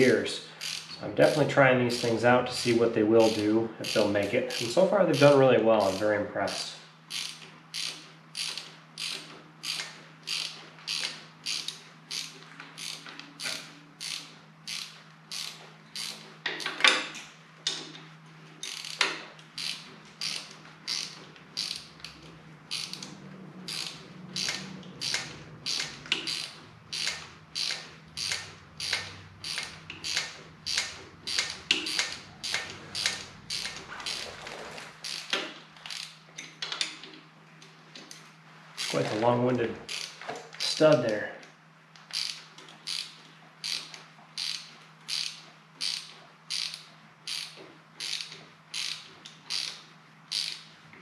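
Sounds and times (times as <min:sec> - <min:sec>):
ratchet wrench clicking: 0:00.0 - 0:17.0, 0:18.6 - 0:34.4, 0:35.0 - 0:36.2, 0:38.8 - 0:39.1, 0:39.8 - 0:41.1, 0:42.0 - 0:50.7.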